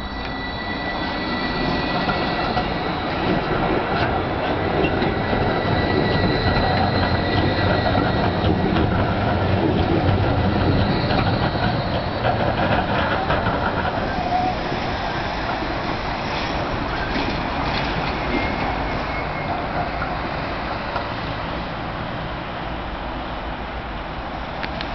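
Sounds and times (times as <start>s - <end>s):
high wheel squeal: 0.0s - 21.3s
tram wheels rumbling on rails: 0.0s - 24.9s.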